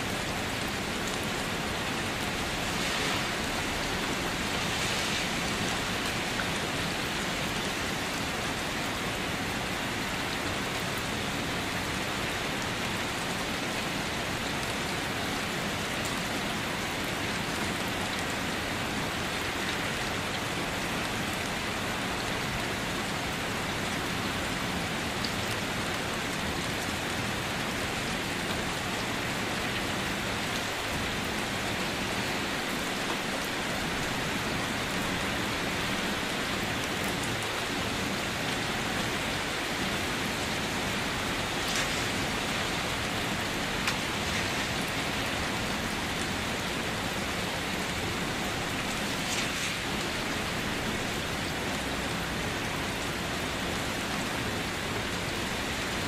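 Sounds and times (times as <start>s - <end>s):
rain falling on wet surface: 0.0s - 56.0s.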